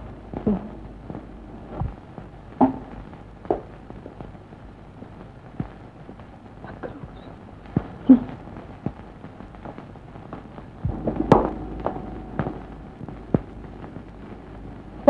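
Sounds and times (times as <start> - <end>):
sharp clicks and crackles: 0.0 - 15.0.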